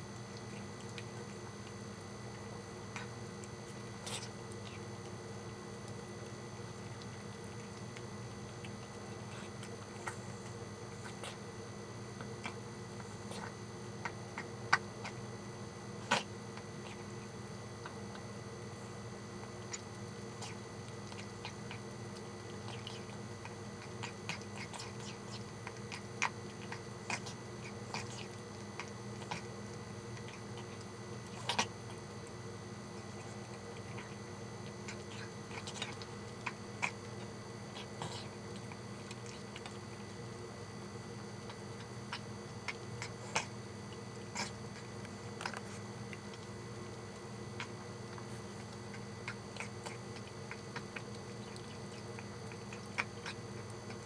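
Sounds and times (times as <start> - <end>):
pet chewing food: 0.0 - 54.0.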